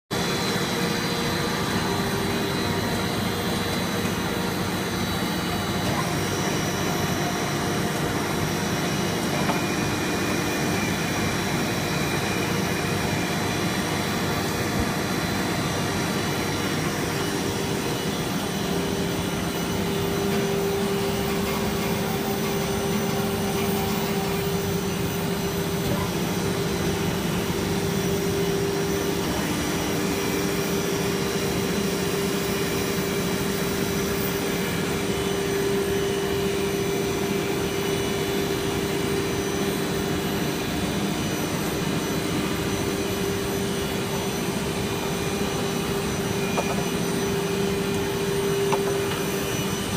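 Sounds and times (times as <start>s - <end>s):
extrusion machinery drone: 0.1s - 49.9s.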